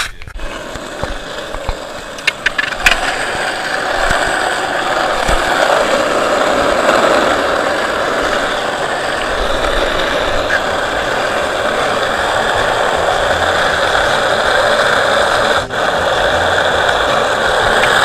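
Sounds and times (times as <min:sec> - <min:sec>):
skateboard wheels rolling on asphalt: 0:00.3 - 0:18.0.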